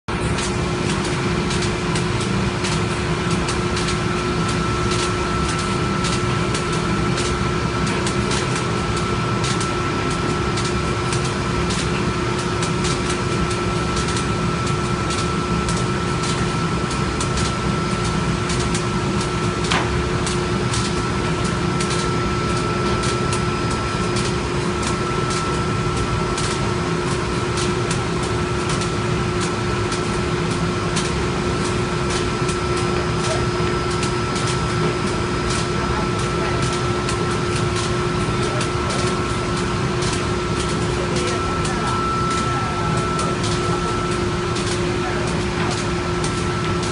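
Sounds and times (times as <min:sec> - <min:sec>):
machinery humming: 0:00.1 - 0:46.9.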